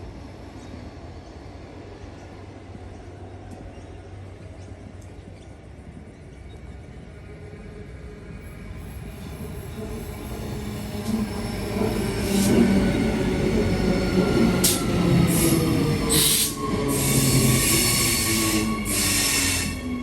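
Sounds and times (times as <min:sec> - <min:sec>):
train wheel noise: 0:00.0 - 0:20.0.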